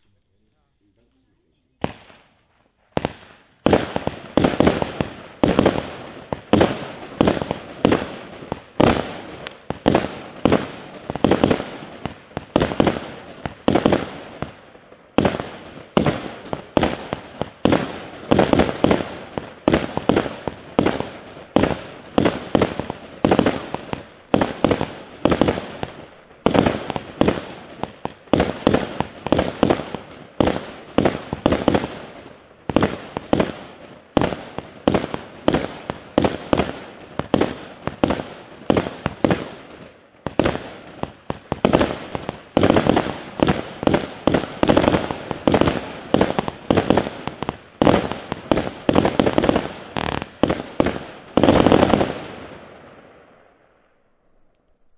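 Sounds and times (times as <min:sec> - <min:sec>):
fireworks firing sharp reports: 0:00.0 - 0:54.9.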